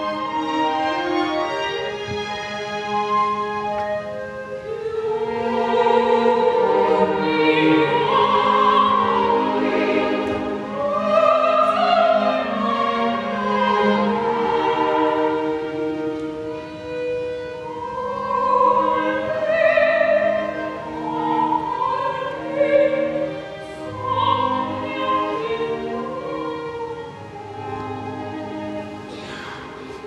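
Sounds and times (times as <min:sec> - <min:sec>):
instrumental accompaniment: 0:00.0 - 0:30.0
opera singer singing: 0:04.1 - 0:30.0.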